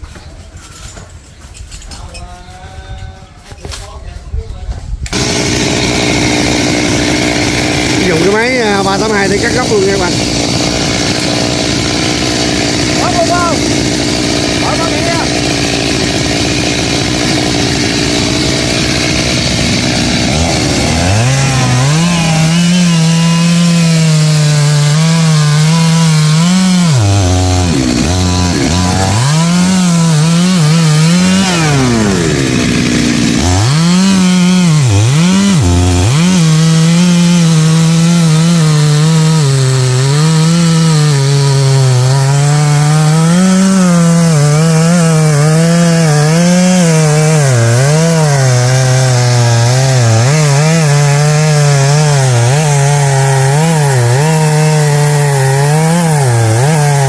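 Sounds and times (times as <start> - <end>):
chainsaw cutting into stump: 5.1 - 57.0.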